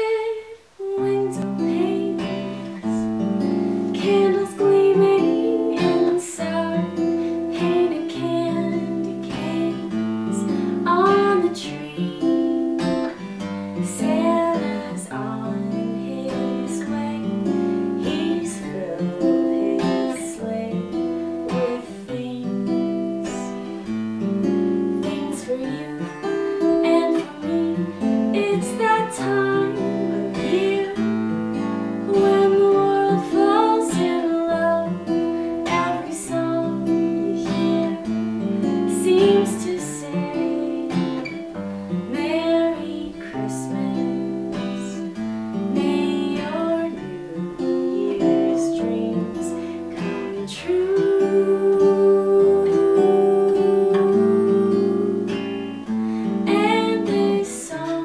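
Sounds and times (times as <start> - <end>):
acoustic guitar: 0.0 - 58.0
woman singing: 0.0 - 58.0.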